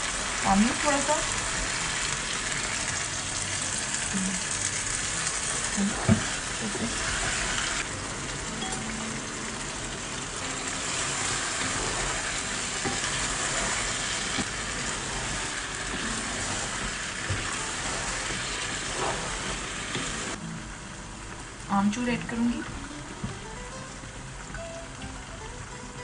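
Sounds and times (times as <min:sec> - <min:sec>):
vegetables sizzling in a pot: 0:00.0 - 0:26.0.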